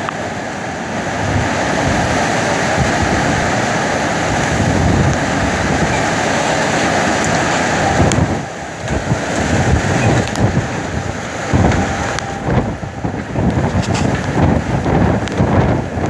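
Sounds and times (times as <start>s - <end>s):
wind buffeting microphone: 0.0s - 16.0s
wind rushing through trees: 0.0s - 16.0s.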